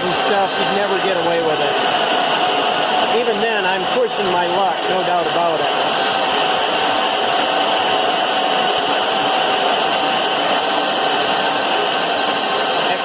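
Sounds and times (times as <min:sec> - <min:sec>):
boring bar cutting steel: 0:00.0 - 0:13.0.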